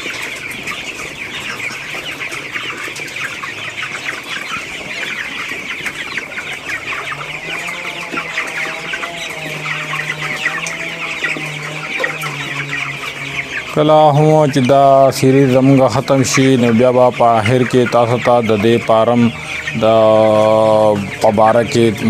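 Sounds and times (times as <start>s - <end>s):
chickens peeping and clucking: 0.0s - 22.0s.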